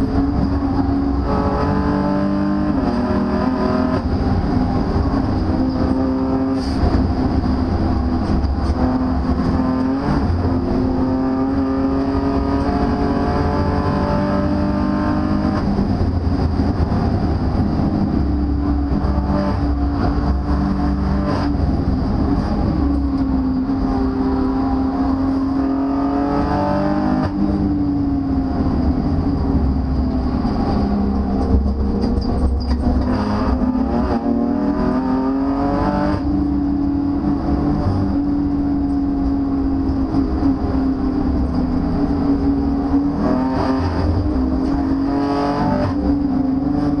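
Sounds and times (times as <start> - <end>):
car engine revving: 0.0 - 47.0
road and wind noise: 0.0 - 47.0.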